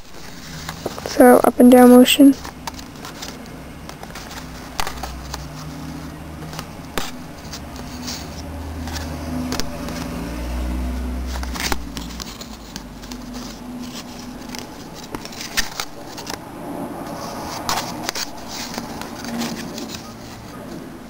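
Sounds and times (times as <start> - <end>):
card and yarn rustling: 0.0 - 16.4, 17.0 - 21.0.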